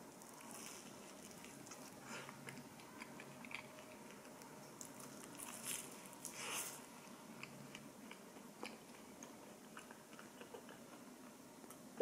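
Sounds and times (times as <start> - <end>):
chewing crunchy toast: 0.1 - 11.8.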